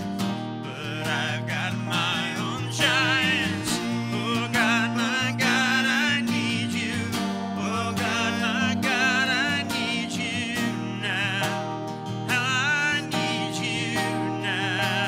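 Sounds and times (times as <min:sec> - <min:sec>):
acoustic guitar: 0:00.0 - 0:15.0
person singing with vibrato: 0:00.6 - 0:15.0.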